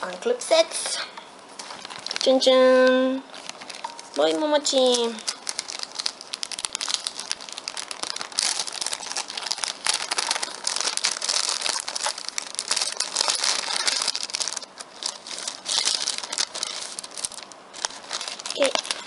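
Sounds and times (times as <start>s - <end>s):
packaging crinkling and rustling: 1.5s - 19.0s.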